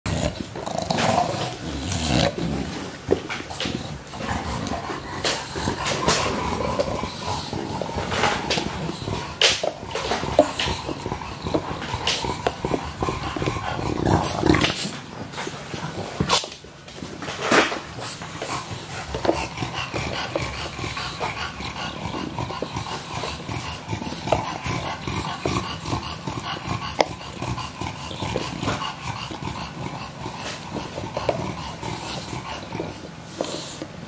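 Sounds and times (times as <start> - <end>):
dog grunting: 0.0 - 16.5, 17.4 - 33.8
dog chewing rubber toy: 0.0 - 34.0.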